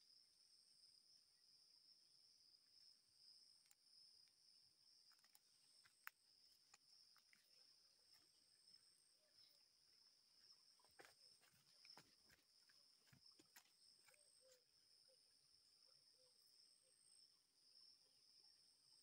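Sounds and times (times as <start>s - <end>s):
insect chorus: 0.0s - 19.0s.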